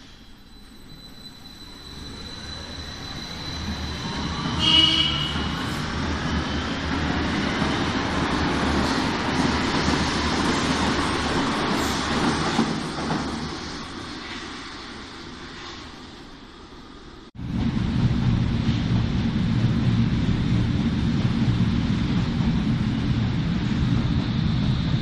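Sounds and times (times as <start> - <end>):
subway train rumbling: 0.0 - 25.0.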